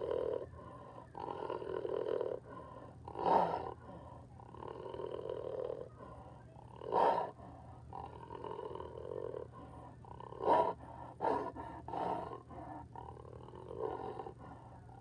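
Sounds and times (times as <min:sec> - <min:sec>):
jaguar growling and grunting: 0:00.0 - 0:06.0, 0:06.7 - 0:15.0.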